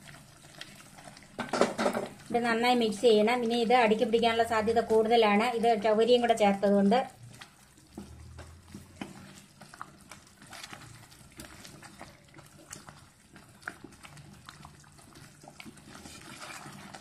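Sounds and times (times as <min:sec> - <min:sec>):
thick pudding bubbling in pot: 0:00.0 - 0:17.0
wooden spoon stirring: 0:00.0 - 0:17.0.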